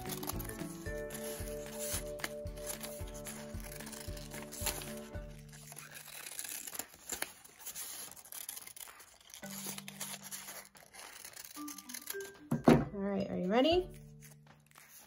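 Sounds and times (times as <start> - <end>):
scissors snipping paper: 0.0 - 12.4, 13.9 - 15.0
paper rustling: 0.0 - 12.6, 13.9 - 15.0
soft background music: 0.0 - 15.0.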